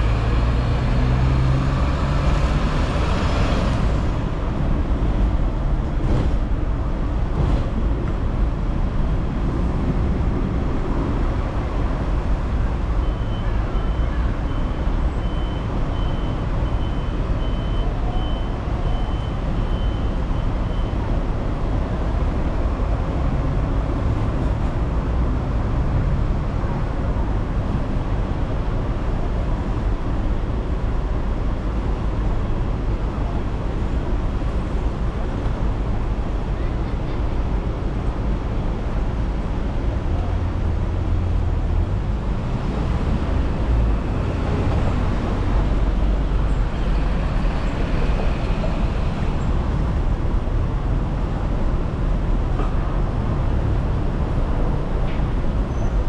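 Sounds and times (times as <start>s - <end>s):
tram running: 0.0s - 17.4s, 26.6s - 56.0s
road traffic: 0.0s - 56.0s.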